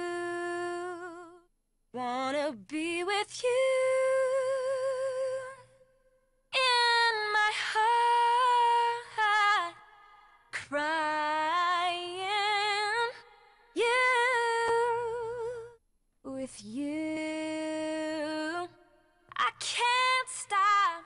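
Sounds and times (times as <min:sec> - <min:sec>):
woman singing unaccompanied: 0:00.0 - 0:05.8, 0:06.5 - 0:09.9, 0:10.6 - 0:21.0.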